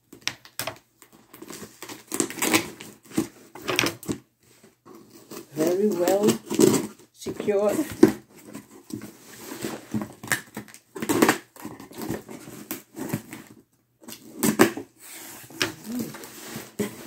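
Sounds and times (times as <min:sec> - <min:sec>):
cardboard rustling: 0:01.0 - 0:13.6, 0:14.2 - 0:17.0.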